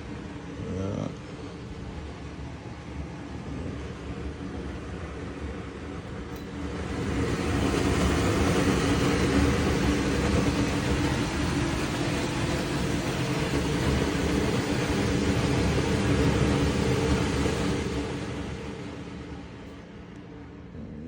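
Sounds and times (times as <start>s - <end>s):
range hood fan running: 0.0s - 21.0s.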